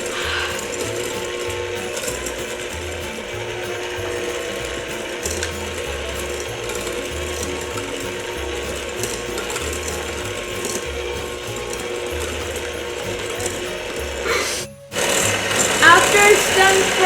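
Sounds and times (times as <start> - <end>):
electric mixer whirring: 0.0 - 17.0.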